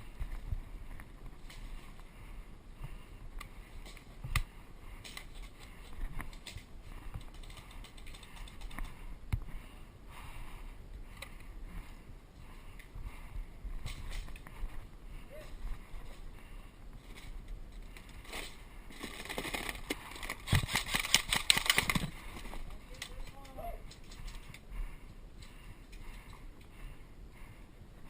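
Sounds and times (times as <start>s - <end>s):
gear clicking and rustling: 2.8s - 9.6s, 11.0s - 27.6s.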